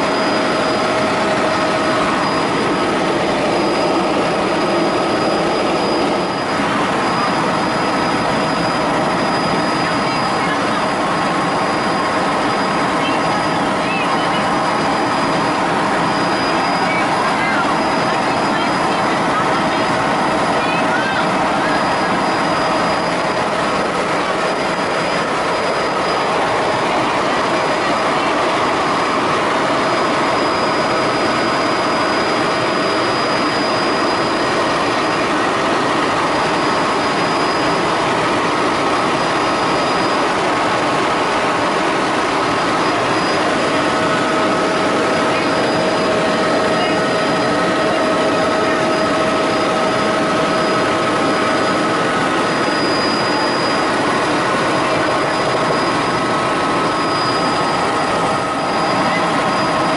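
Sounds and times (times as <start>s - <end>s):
helicopter engine and rotor noise: 0.0s - 59.9s.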